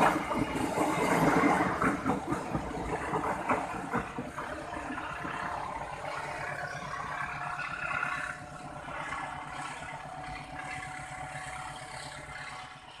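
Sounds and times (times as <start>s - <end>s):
locomotive engine running: 0.0s - 13.0s.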